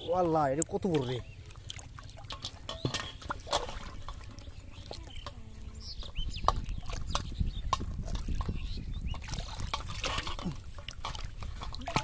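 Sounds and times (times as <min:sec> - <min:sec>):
fish thrashing in water: 0:00.3 - 0:12.0.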